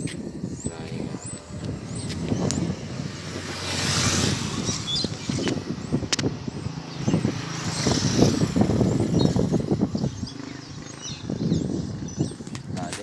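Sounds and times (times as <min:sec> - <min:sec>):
steady low rumble: 0:00.0 - 0:13.0
vehicle passing: 0:00.5 - 0:12.4.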